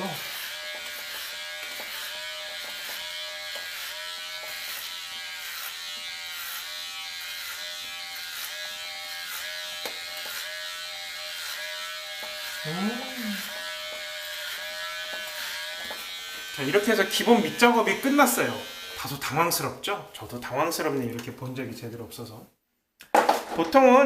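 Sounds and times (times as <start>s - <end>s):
electric hair clipper buzzing: 0.0s - 19.6s.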